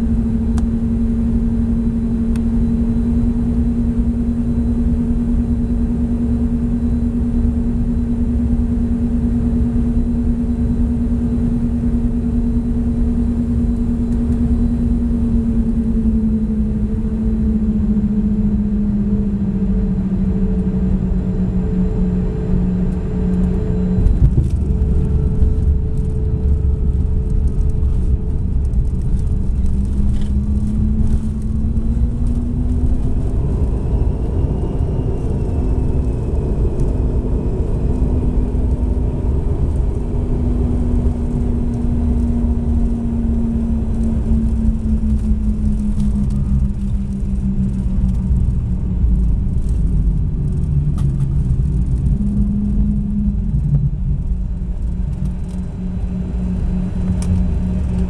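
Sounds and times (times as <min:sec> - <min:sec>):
jet engines humming: 0:00.0 - 0:58.0
wheels rumbling on runway: 0:00.0 - 0:58.0.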